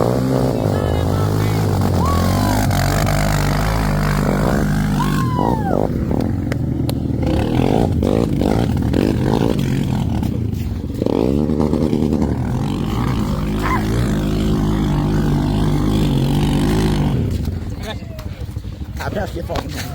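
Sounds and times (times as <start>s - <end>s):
atv engine revving: 0.0s - 19.9s.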